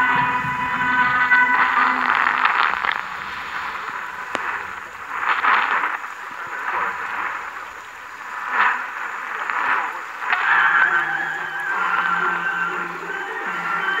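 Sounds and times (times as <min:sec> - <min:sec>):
radio static hissing: 0:00.0 - 0:14.0.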